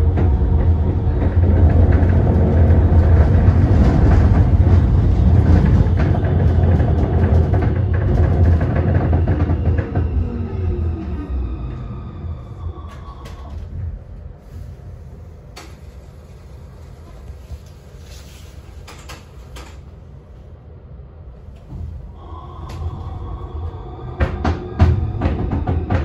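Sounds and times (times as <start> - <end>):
tram rumbling: 0.0 - 26.0.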